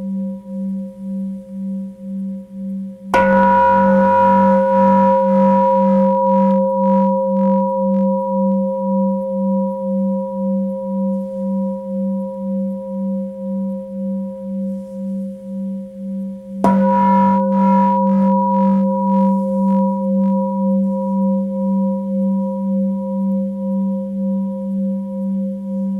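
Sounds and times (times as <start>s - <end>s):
singing bowl ringing: 3.2s - 14.7s, 16.6s - 25.9s.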